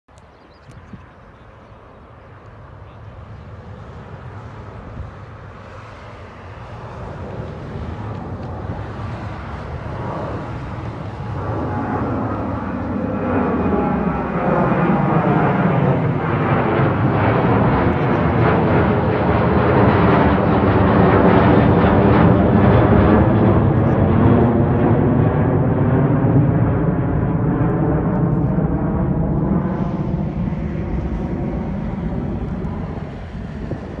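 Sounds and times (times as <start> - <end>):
jet engines rumbling: 0.2 - 34.0.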